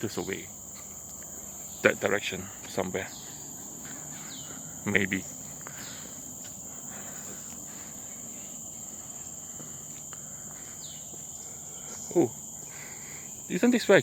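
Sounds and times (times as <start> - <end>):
insect chorus whine: 0.0 - 14.0.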